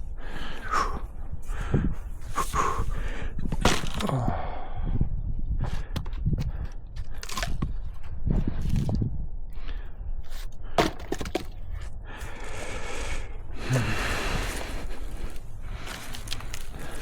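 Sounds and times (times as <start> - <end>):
man breathing hard: 0.0 - 10.9, 11.7 - 17.0.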